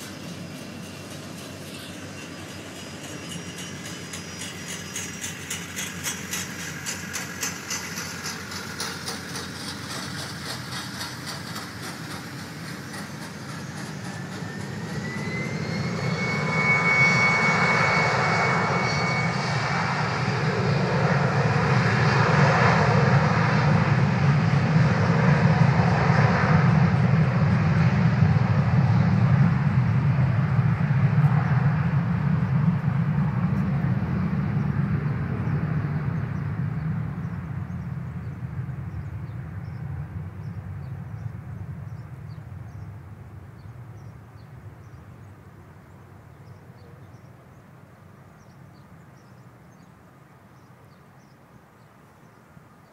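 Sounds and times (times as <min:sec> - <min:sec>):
jet engines whining: 0:00.0 - 0:46.0
jet engine rumble: 0:00.0 - 0:52.9.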